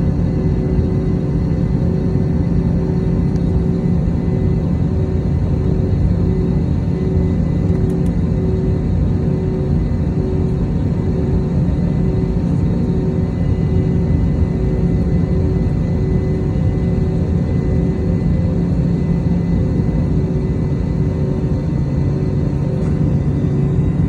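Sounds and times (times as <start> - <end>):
constant hum: 0.0 - 24.0
low engine and cabin air rumble: 0.0 - 24.0.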